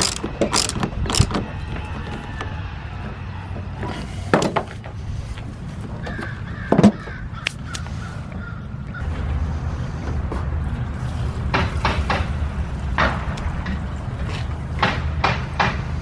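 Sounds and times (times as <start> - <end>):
hand tools knocking: 0.0 - 16.0
steady low hum: 0.0 - 16.0.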